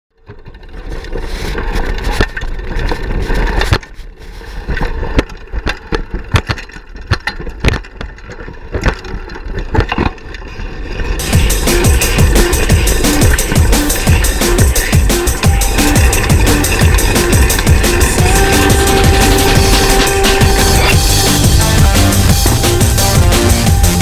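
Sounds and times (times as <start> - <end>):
bike tyres rolling on dirt: 0.1 - 24.0
knocks and rattles: 4.6 - 24.0.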